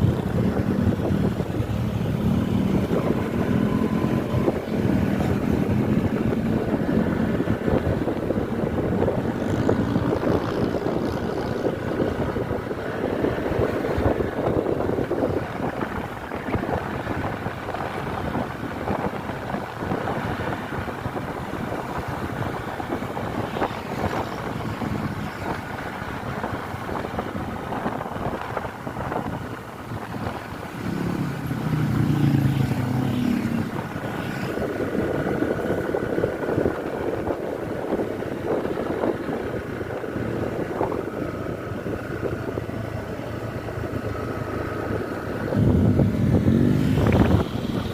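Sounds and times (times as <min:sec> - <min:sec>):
bus engine and road rumble: 0:00.0 - 0:47.9
wind buffeting microphone: 0:00.0 - 0:47.9.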